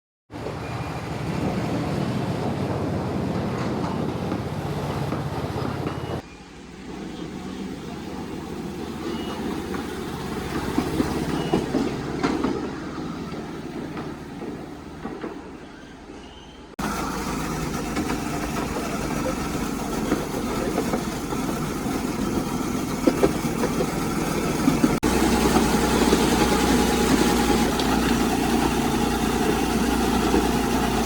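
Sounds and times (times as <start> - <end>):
train wheels clattering on track: 0.4 - 15.9, 16.8 - 31.0.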